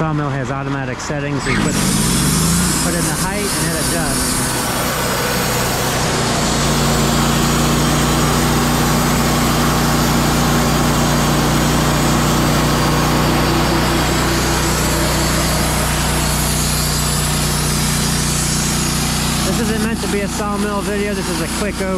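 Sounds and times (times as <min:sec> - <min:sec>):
band sawmill engine hum: 0:00.0 - 0:21.9.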